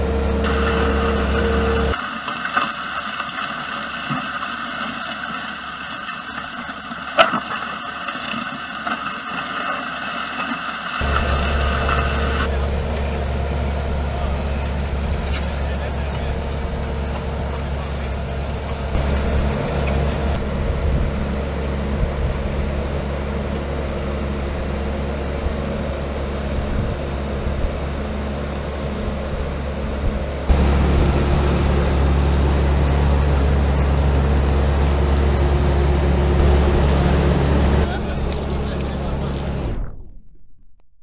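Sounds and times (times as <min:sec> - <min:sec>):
tractor diesel engine running: 0:00.0 - 0:39.8.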